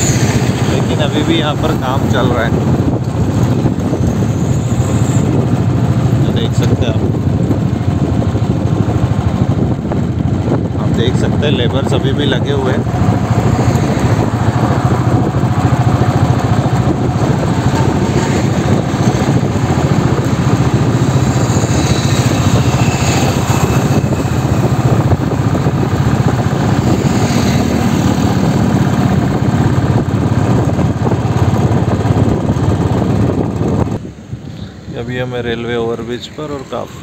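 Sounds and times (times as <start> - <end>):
motorbike engine: 0.0 - 34.6
rushing road noise: 0.0 - 37.0.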